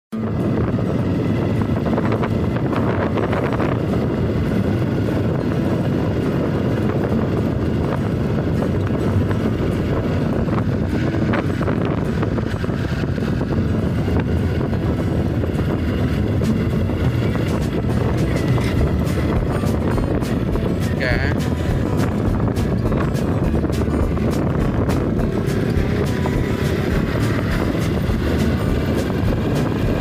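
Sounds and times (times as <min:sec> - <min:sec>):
motorbike engine running: 0:00.1 - 0:30.0
wind buffeting microphone: 0:00.1 - 0:30.0.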